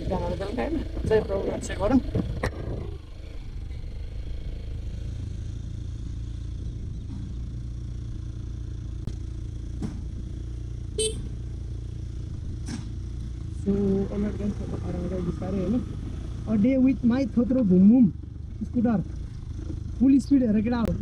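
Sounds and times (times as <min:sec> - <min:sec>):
scooter engine rumble: 0:00.0 - 0:21.0.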